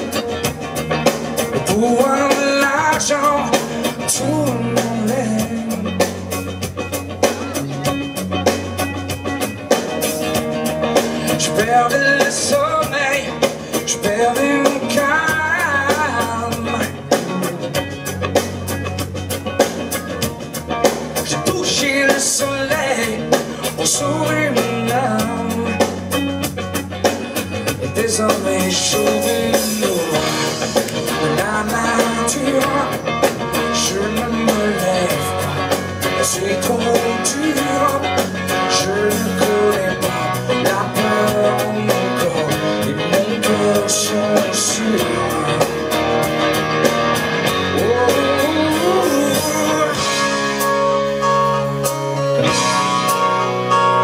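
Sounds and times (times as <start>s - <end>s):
live rock band playing: 0.0s - 54.0s
man singing lead: 0.0s - 54.0s.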